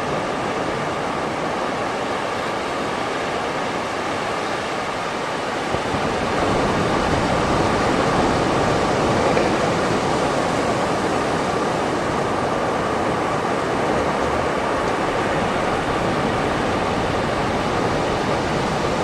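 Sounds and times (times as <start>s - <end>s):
waves washing onto beach: 0.0s - 19.0s.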